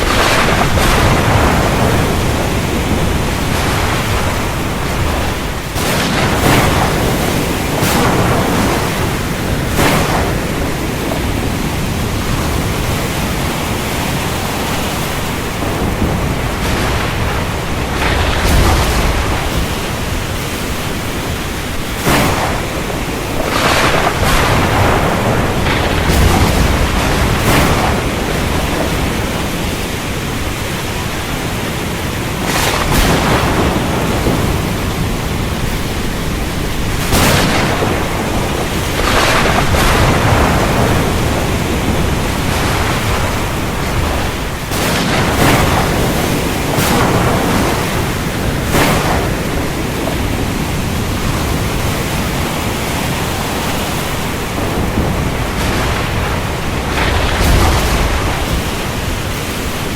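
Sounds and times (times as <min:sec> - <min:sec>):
deep thunder rumble: 0:00.0 - 0:59.9
heavy rain pouring: 0:00.0 - 0:59.9
sharp thunder cracks: 0:00.0 - 0:59.9.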